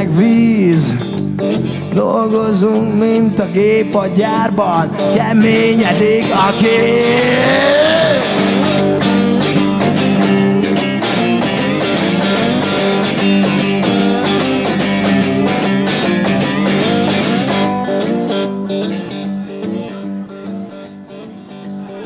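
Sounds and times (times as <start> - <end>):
electric bass line: 0.0 - 22.0
electric guitar picking: 0.0 - 22.0.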